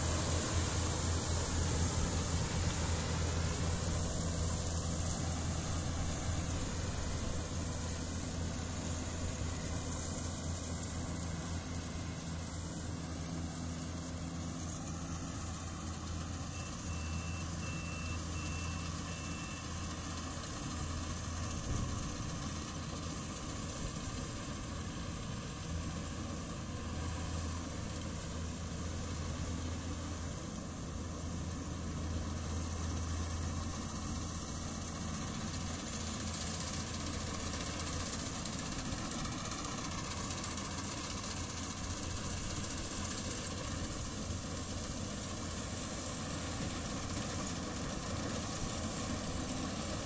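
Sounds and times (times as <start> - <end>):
combine harvester running: 0.0 - 50.0.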